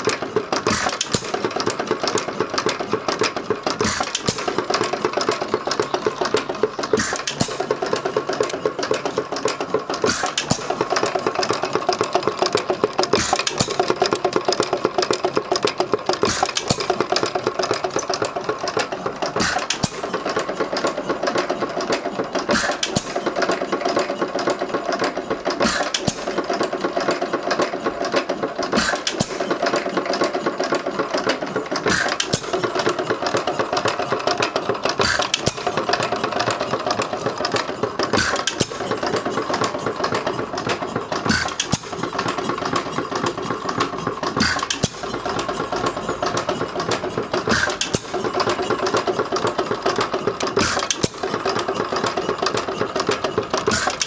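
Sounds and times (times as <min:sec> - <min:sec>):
stationary engine clattering: 0:00.0 - 0:54.0.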